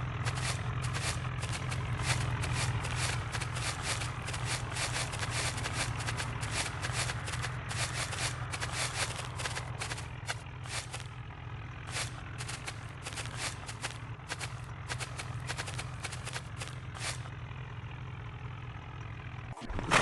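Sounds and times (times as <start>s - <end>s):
tractor engine running: 0.0s - 20.0s
clatter of knocks and scuffs: 0.2s - 11.1s, 11.8s - 17.2s.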